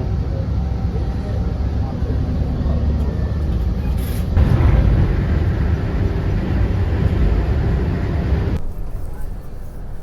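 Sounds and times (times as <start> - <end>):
vehicle noise rumbling: 0.0 - 10.0.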